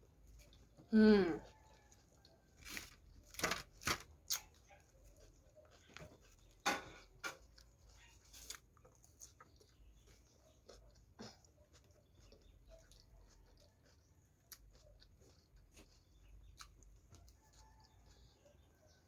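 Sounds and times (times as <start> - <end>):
wet chewing and smacking: 0.0 - 19.0.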